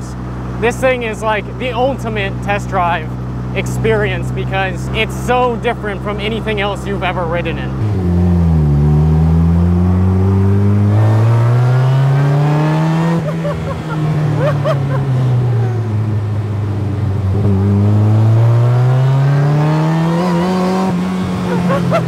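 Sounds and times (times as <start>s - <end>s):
supercharged engine revving: 3.2s - 22.0s.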